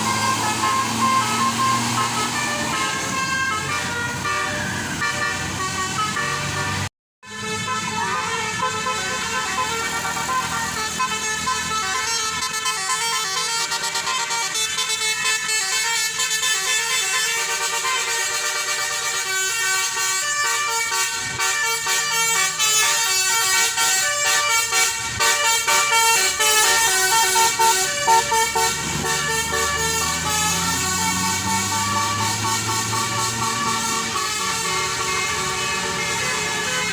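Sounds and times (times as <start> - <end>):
bus engine revving: 0.0 - 6.9, 7.7 - 36.9
multi-tone bus horn melody: 0.0 - 36.9.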